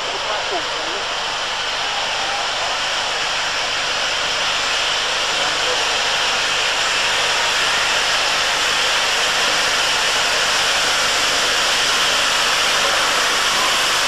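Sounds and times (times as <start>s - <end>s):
locomotive steam hissing: 0.0s - 14.0s.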